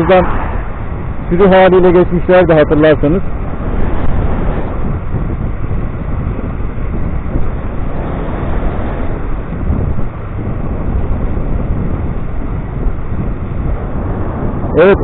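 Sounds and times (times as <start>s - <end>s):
electric scooter rumble: 0.0s - 15.0s
wind rushing over microphone: 0.0s - 15.0s.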